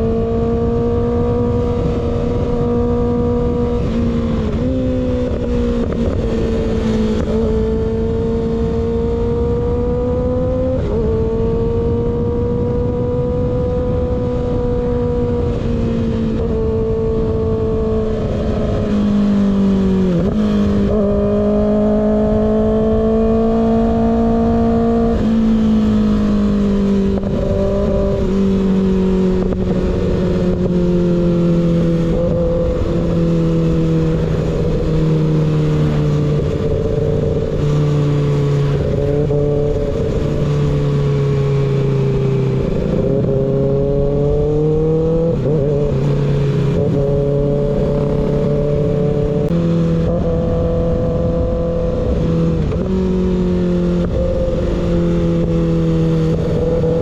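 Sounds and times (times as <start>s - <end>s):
loud motorcycle engine revving: 0.0s - 57.0s.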